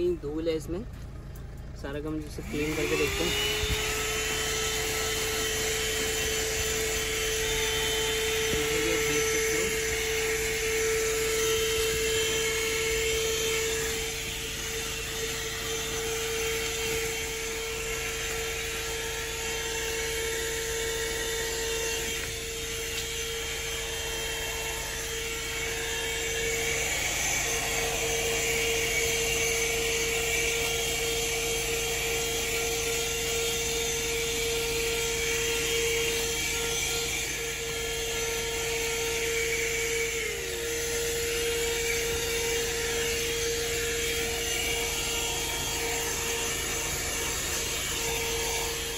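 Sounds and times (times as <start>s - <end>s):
car vacuum cleaner running: 0.0s - 48.9s.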